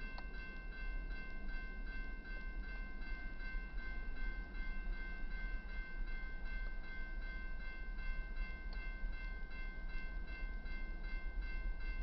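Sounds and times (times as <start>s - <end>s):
crossing bell ringing: 0.0s - 12.0s.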